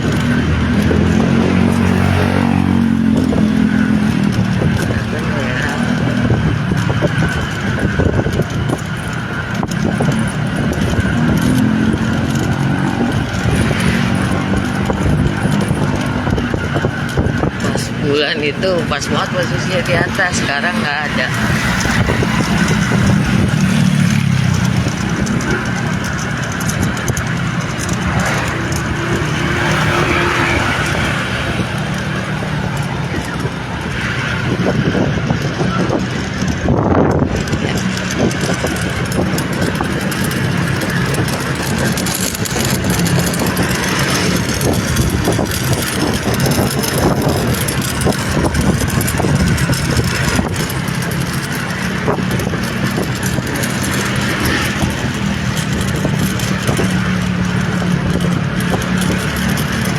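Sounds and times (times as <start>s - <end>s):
road noise: 0.0s - 59.9s
vehicle engine hum: 0.0s - 59.9s.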